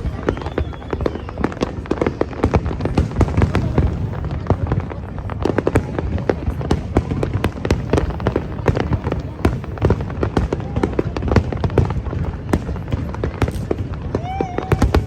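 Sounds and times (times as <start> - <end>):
fireworks bangs and crackles: 0.0 - 15.0
rumble of explosions: 0.0 - 15.0.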